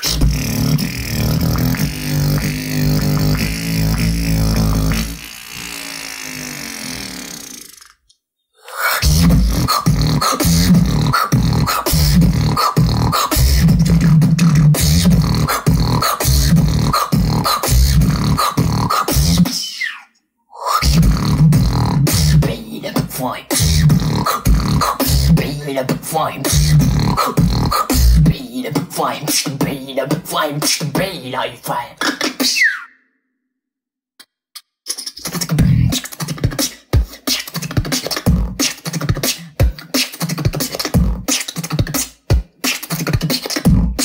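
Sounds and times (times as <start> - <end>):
person beatboxing: 0.0 - 5.7, 6.5 - 32.9, 34.6 - 44.0.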